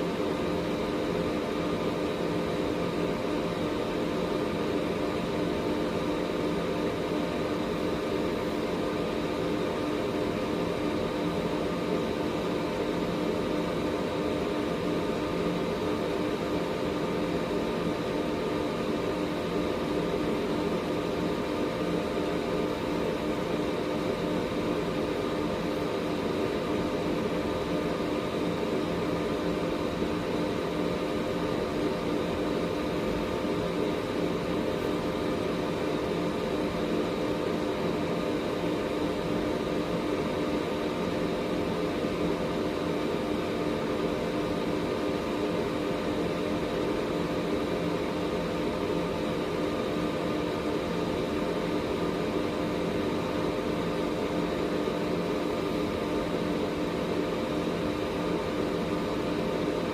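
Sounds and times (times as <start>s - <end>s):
air purifier fan rushing: 0.0s - 59.9s.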